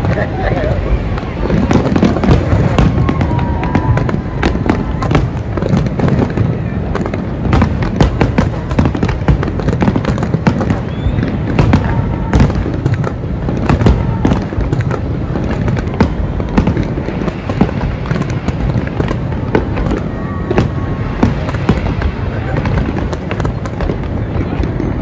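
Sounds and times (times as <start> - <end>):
fireworks crackling and popping: 0.0 - 25.0
rumble of fireworks booms: 0.0 - 25.0
whistling fireworks: 0.0 - 25.0.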